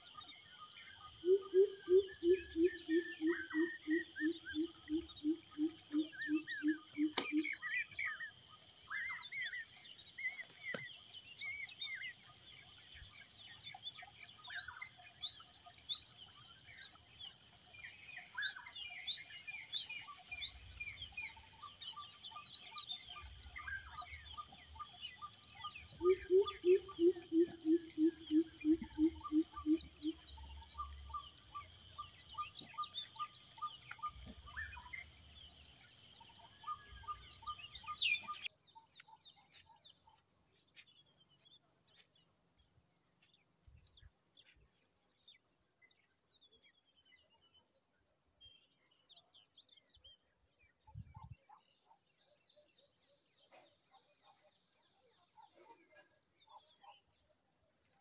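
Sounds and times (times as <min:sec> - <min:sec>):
birds chirping and trilling: 0:00.0 - 0:58.0
low evenly spaced bird calls: 0:00.0 - 0:58.0.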